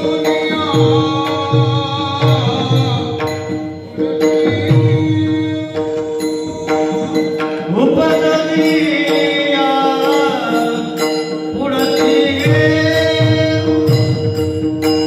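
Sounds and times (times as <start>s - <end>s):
man singing devotional melody: 0.0s - 15.0s.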